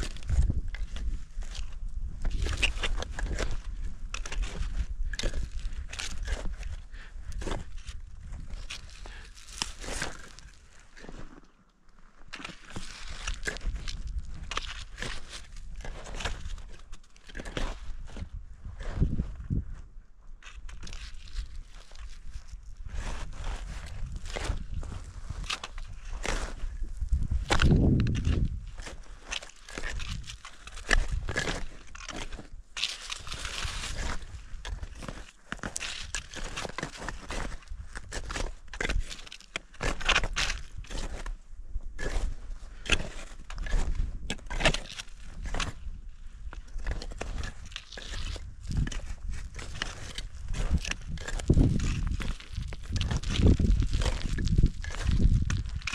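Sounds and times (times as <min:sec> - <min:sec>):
boots crunching footsteps: 0:00.0 - 0:19.6, 0:20.4 - 0:41.4, 0:42.0 - 0:55.9.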